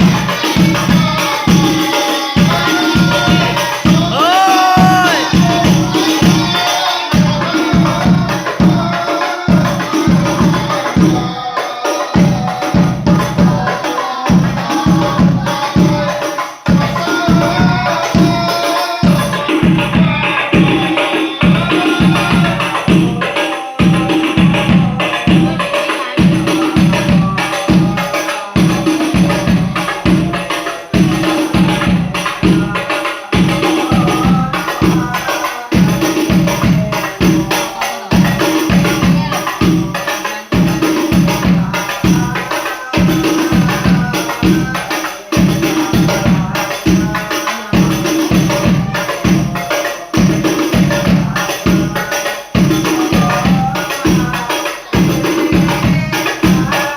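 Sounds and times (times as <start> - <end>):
frame drums with jingles: 0.0 - 56.9
group singing: 0.0 - 56.9.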